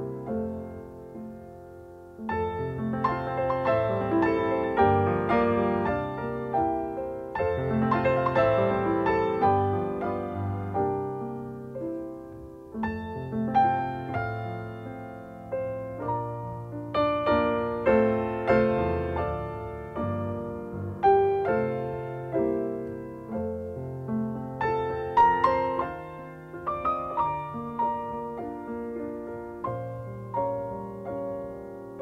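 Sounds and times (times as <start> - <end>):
slow solo piano: 0.0 - 32.0.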